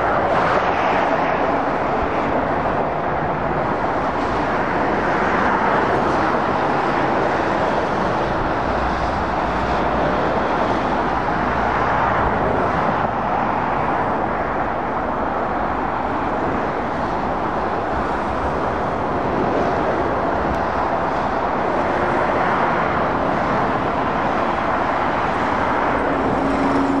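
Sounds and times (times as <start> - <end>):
motorway traffic roar: 0.0 - 27.0.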